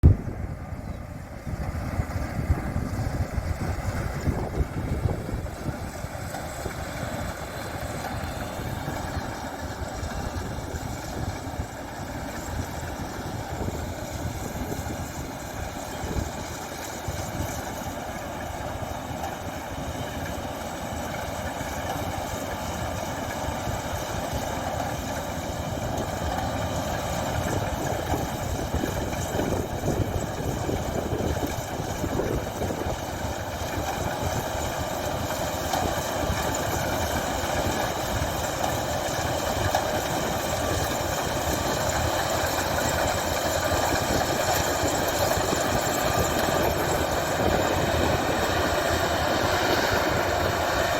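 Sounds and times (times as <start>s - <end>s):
combine harvester engine drone: 0.0s - 50.9s.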